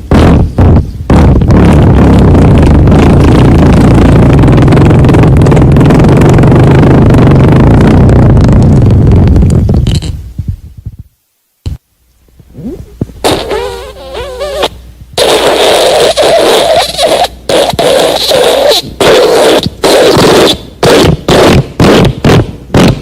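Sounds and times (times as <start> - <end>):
farting: 0.1 - 10.2, 12.5 - 23.0.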